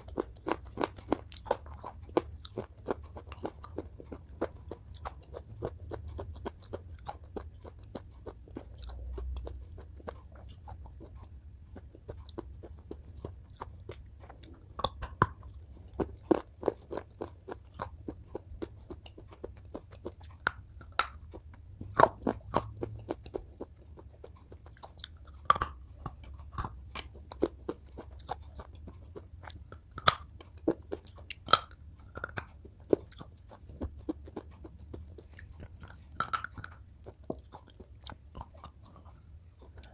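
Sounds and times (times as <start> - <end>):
low steady hum: 0.0 - 39.9
person crunching food: 0.0 - 39.9.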